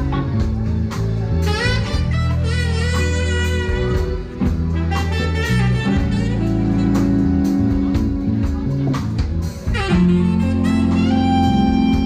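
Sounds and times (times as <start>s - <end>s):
bass guitar: 0.0s - 12.0s
drum kit with cymbals: 0.0s - 12.0s
electric guitar: 0.0s - 12.0s
keyboards: 0.0s - 12.0s
saxophone: 0.0s - 12.0s.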